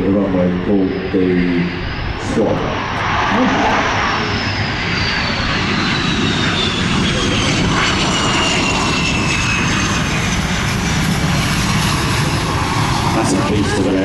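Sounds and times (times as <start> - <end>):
high whine falling in pitch: 0.0 - 14.0
jet engine rumble: 0.0 - 14.0.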